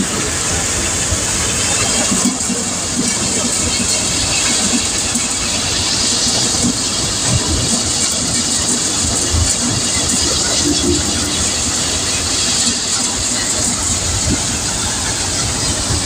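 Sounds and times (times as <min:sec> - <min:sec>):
thresher machine running: 0:00.0 - 0:16.0.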